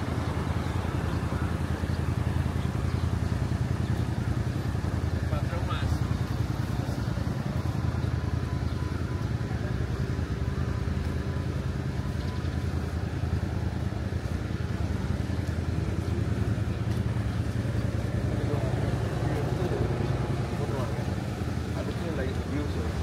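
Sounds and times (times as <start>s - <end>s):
city road traffic rumble: 0.0s - 23.0s.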